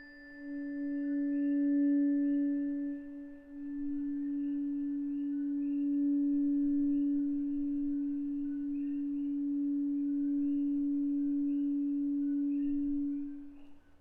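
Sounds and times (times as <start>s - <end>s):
tuning fork ringing: 0.0s - 14.0s.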